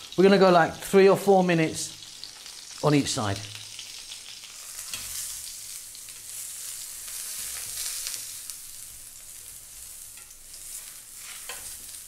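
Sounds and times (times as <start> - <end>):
eggplant sizzling in oil: 0.0 - 12.0.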